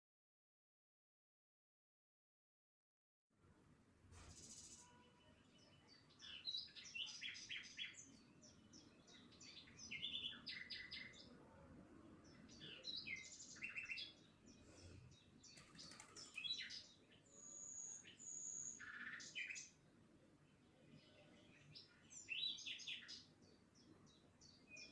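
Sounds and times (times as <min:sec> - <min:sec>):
small birds chirping: 0:04.1 - 0:24.9.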